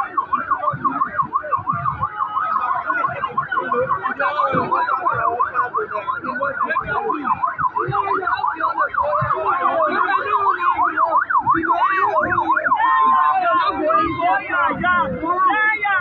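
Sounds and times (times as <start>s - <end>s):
crowd chatter: 0.0s - 16.0s
electronic siren yelping: 0.0s - 16.0s.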